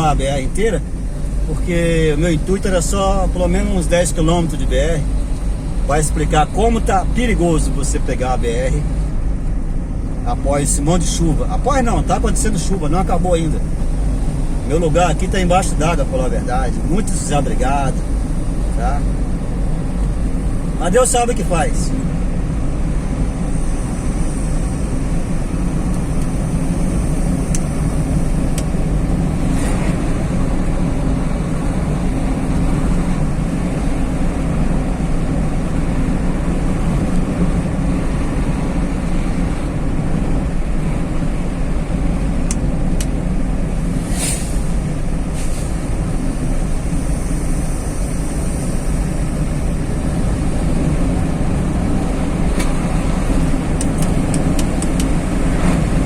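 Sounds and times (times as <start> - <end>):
car engine: 0.0 - 56.0
tyre road noise: 0.0 - 56.0.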